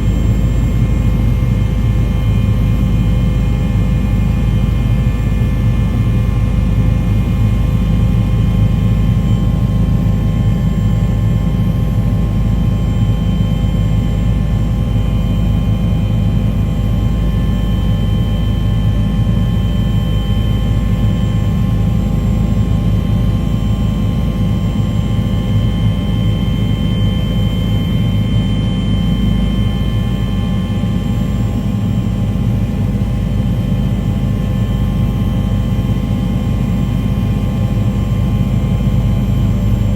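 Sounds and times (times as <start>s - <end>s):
engine rumble with whining tones: 0.0s - 39.9s.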